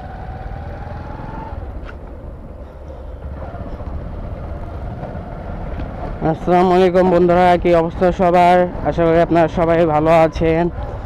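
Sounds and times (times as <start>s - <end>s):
motorcycle engine rumble: 0.0s - 11.0s
road and traffic noise: 0.0s - 11.0s.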